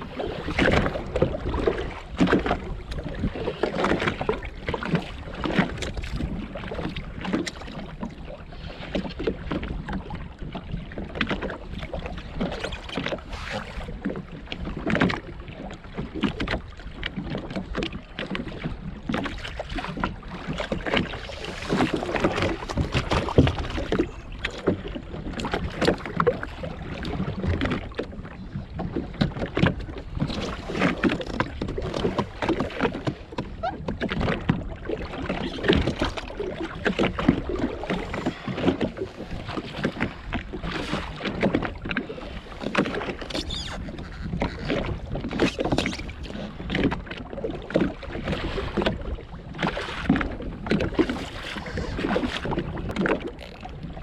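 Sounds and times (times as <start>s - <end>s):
small waves slapping a hull: 0.0s - 54.0s.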